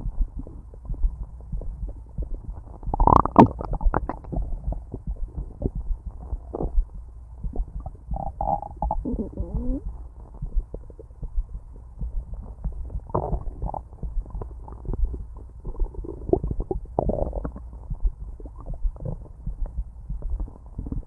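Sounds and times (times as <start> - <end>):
stomach growling: 0.0 - 6.9, 7.5 - 11.2, 12.2 - 21.0.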